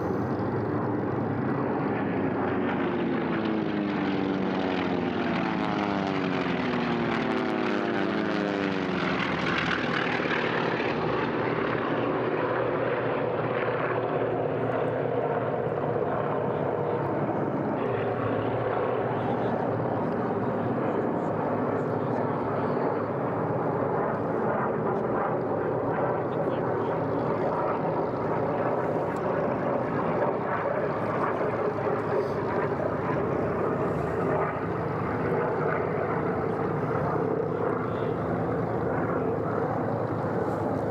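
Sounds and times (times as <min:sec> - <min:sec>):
propeller airplane flying past: 0:00.0 - 0:40.9.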